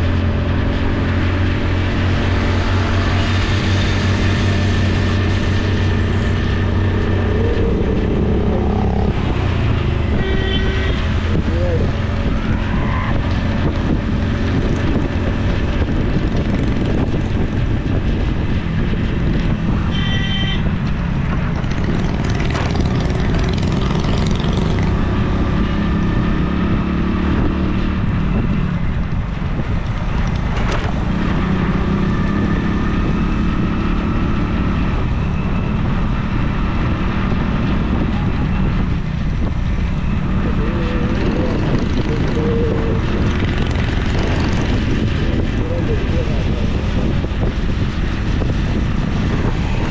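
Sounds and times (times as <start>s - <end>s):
motorcycle engine hum: 0.0s - 49.9s
wind and road noise: 0.0s - 49.9s.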